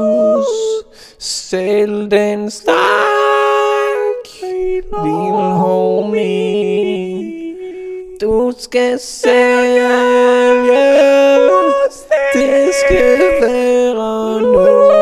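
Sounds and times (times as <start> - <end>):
man singing long notes: 0.0 - 0.9, 2.7 - 8.4, 9.2 - 15.0.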